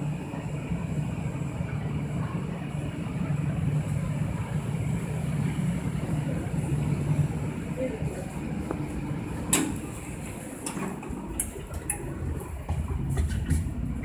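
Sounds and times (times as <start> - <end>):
elevator humming: 0.0 - 14.0.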